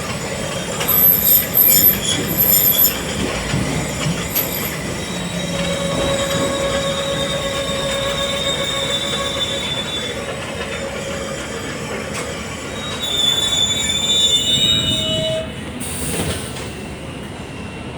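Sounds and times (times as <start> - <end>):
train rolling noise: 0.0 - 17.9
train wheels squealing: 0.0 - 17.9.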